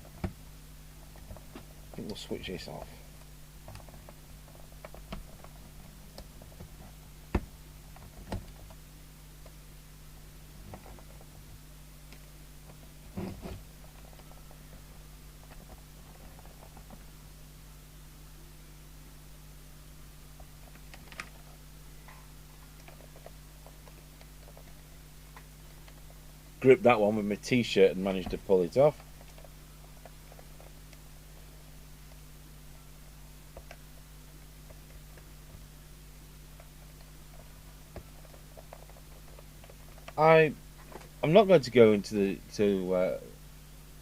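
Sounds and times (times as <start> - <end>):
low mains hum: 0.0 - 44.0.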